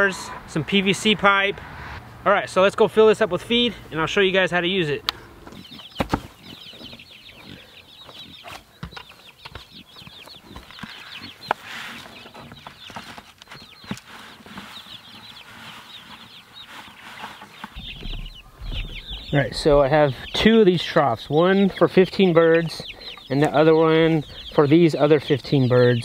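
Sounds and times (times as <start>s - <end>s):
chicks peeping: 2.5s - 26.0s.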